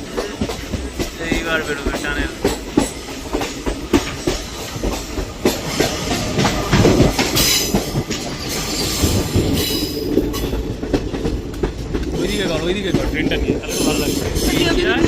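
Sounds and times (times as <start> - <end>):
train rumbling on track: 0.0 - 15.0
wheels clacking over rail joints: 0.0 - 15.0.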